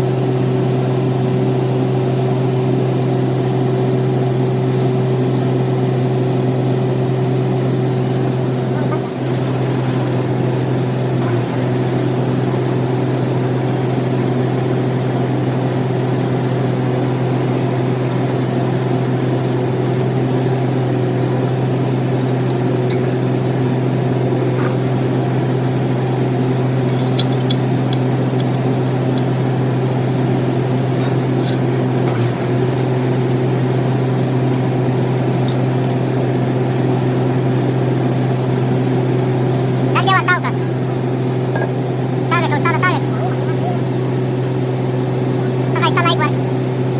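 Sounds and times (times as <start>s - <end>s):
metal lathe running: 0.0s - 46.9s.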